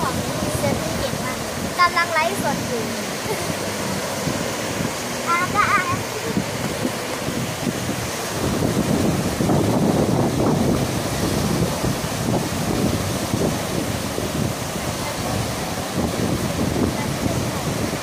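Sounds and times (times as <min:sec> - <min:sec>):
small waves breaking on sand: 0:00.0 - 0:18.0
wind buffeting microphone: 0:00.0 - 0:18.0.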